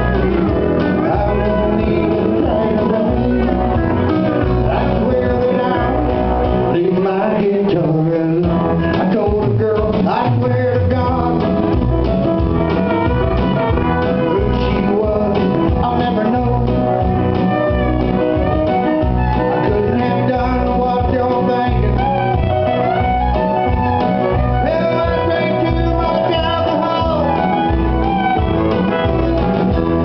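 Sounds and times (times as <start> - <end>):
live country band: 0.0 - 30.0.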